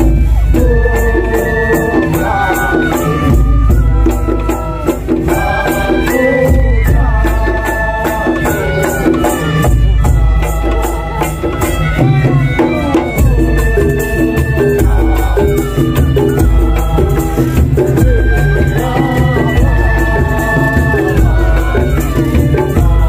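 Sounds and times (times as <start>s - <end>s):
deep drum beats: 0.0s - 23.0s
fast percussion ticking: 0.0s - 23.0s
parade band over loudspeakers: 0.0s - 23.0s.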